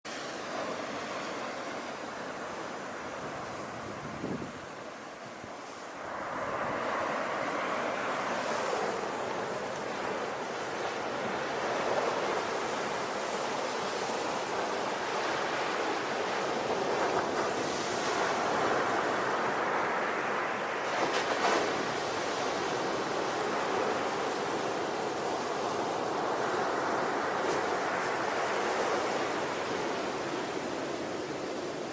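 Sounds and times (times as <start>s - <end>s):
sea waves breaking on shore: 0.1s - 31.9s.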